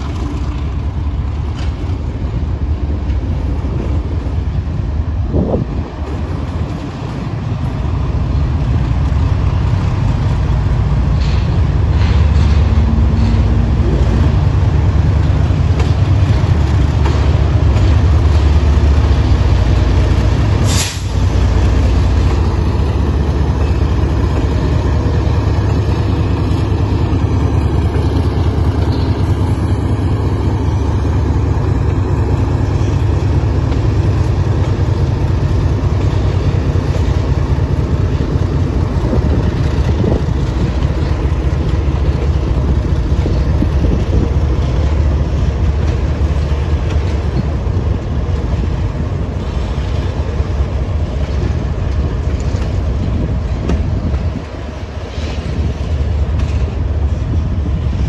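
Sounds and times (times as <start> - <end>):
diesel locomotive rumble: 0.0 - 58.0.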